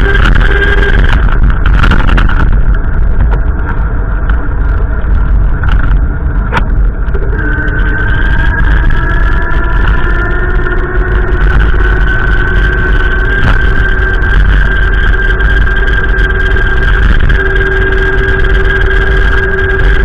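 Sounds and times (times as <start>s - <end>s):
faint wind whistling: 0.0s - 20.0s
wind buffeting microphone: 0.0s - 20.0s.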